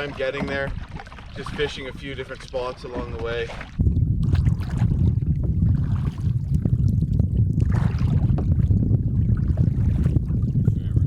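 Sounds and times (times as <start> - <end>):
paddles splashing water: 0.0 - 10.6
wind buffeting microphone: 0.0 - 11.0.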